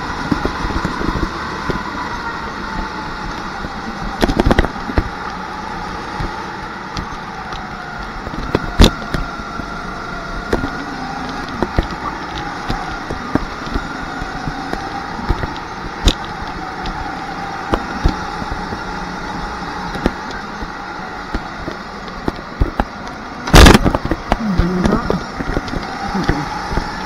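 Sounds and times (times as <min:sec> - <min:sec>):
go-kart engine drone: 0:00.0 - 0:27.0
kart rattles and knocks: 0:00.0 - 0:27.0.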